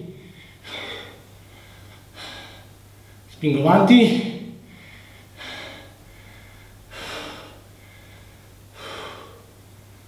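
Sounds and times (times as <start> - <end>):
man breathing hard: 0.0 - 3.3, 4.6 - 10.0.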